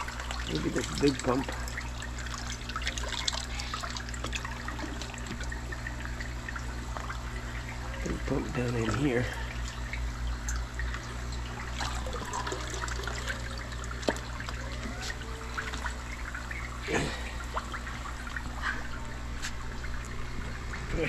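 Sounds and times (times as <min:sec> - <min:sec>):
steady low hum: 0:00.0 - 0:21.0
water trickling and splashing: 0:00.0 - 0:21.0.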